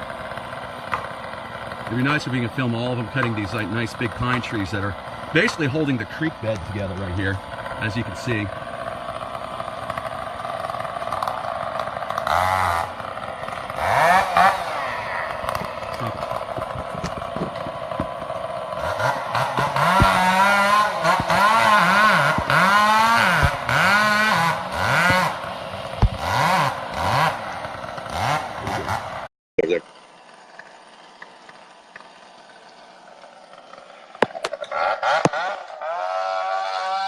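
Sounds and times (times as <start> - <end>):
chainsaw revving: 0.0 - 37.0.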